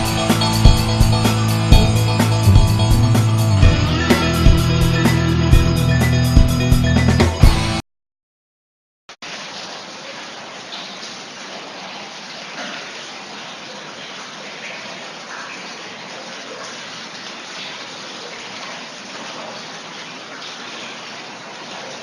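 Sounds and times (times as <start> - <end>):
rainwater pouring: 0.0 - 6.5, 9.2 - 22.0.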